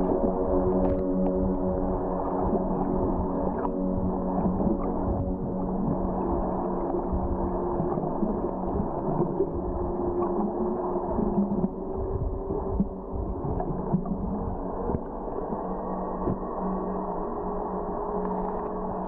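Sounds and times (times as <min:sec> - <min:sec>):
held humming tones: 0:00.0 - 0:19.0
low underwater rumble: 0:00.0 - 0:19.0.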